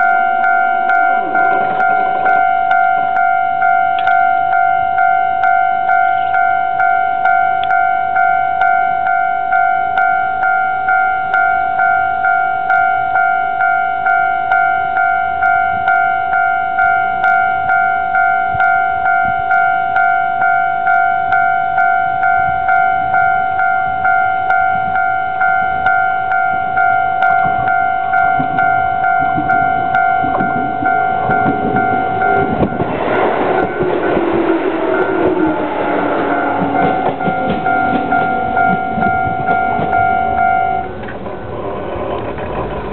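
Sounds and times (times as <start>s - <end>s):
level-crossing warning bell: 0.0s - 41.5s
electric train passing: 0.0s - 42.9s.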